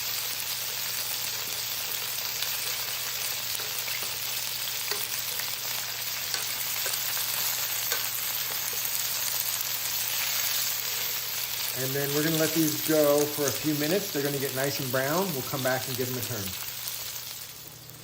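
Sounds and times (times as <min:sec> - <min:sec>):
potatoes sizzling in hot oil: 0:00.0 - 0:18.0.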